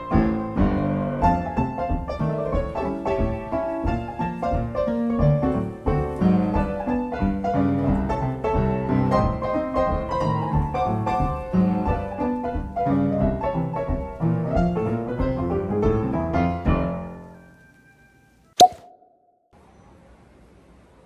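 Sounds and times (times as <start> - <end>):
solo piano music: 0.0 - 17.4.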